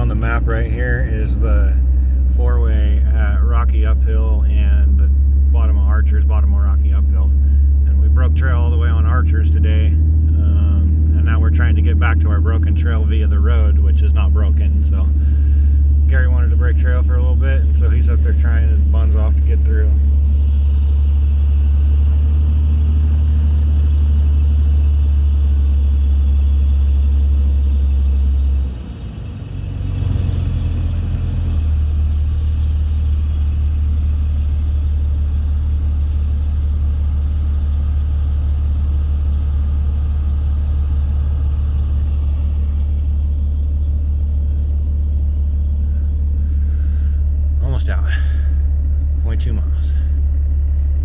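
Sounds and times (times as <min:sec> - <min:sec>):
car engine droning: 0:00.0 - 0:51.0.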